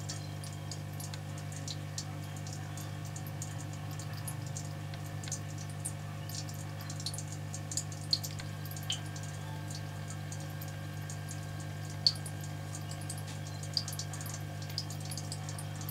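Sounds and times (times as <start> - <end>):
aquarium equipment humming: 0.0 - 15.9
water dripping: 0.0 - 15.9.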